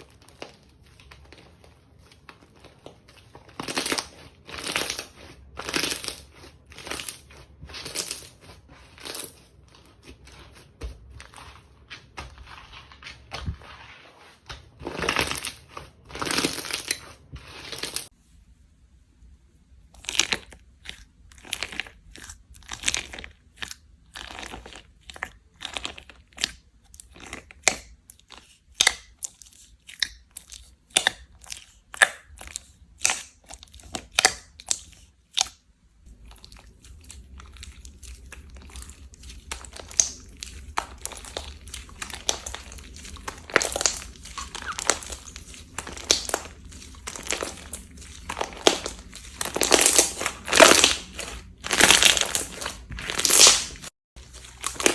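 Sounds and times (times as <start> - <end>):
slime clicking and crackling: 0.0 - 13.5, 14.2 - 18.1, 20.0 - 54.9.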